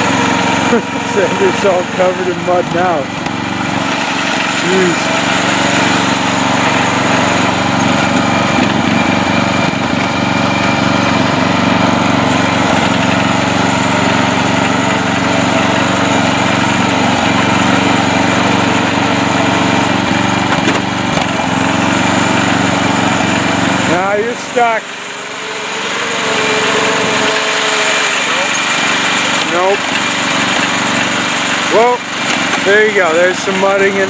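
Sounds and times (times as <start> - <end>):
lawn tractor engine under load: 0.0 - 34.0.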